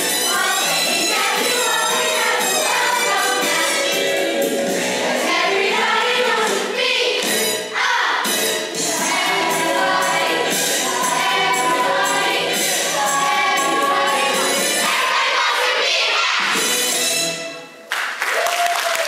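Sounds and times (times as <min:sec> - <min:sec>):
musical accompaniment: 0:00.0 - 0:18.3.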